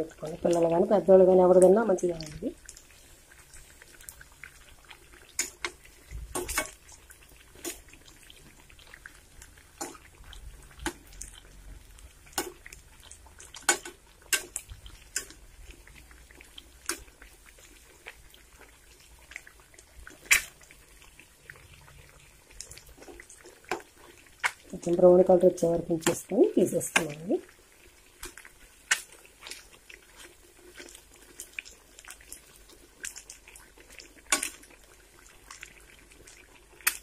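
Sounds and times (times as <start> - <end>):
oil sizzling with crackles and pops: 0.0 - 37.0.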